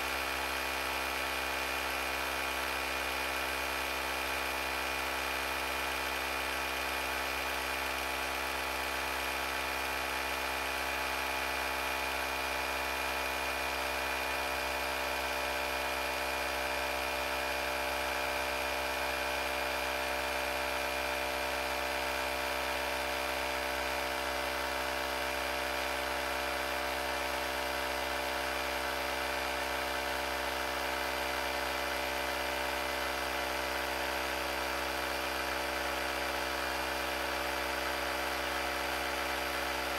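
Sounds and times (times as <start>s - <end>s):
electric compressor running: 0.0s - 39.9s.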